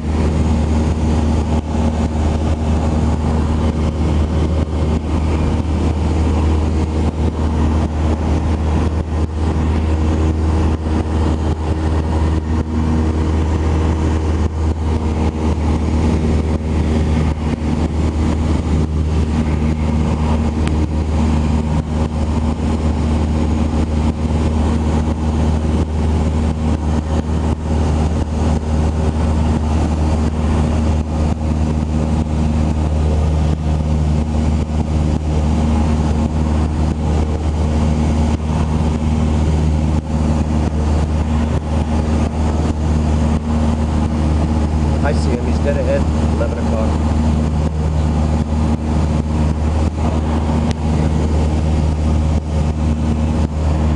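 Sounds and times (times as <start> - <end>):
airplane engine droning in cabin: 0.0 - 53.9.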